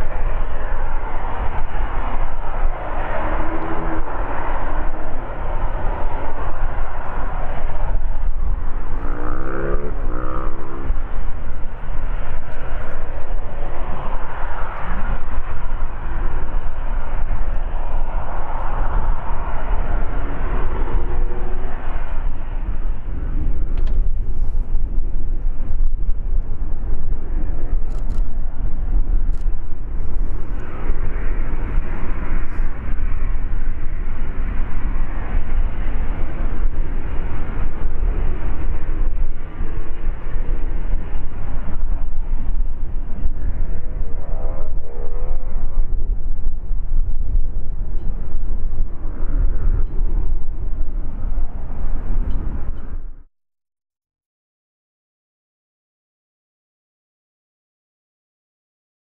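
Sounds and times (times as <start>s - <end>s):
jet engines roaring while taxiing: 0.0s - 53.2s.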